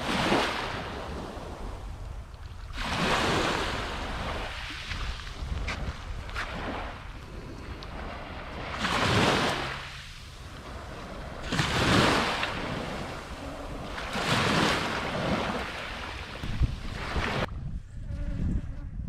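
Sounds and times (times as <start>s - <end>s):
small waves washing on beach: 0.0s - 17.5s
wind rumbling on microphone: 0.0s - 19.0s.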